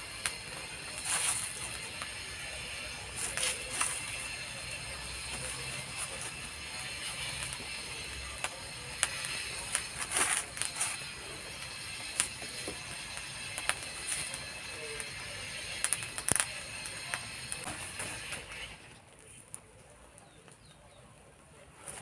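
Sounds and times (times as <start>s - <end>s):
fire crackling with pops and snaps: 0.0s - 22.0s.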